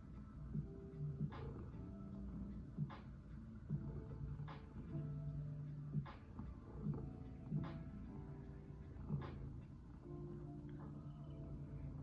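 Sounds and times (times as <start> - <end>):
cat purring: 0.7 - 12.0.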